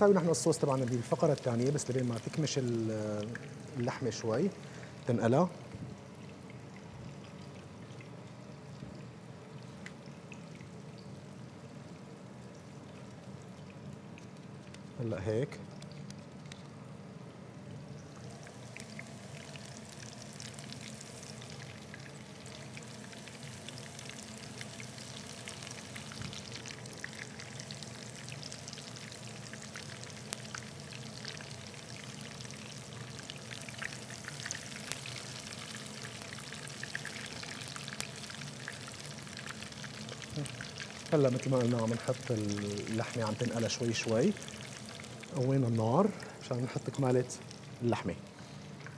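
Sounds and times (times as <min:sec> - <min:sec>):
patties sizzling in hot oil: 0:00.0 - 0:17.2, 0:17.8 - 0:48.9.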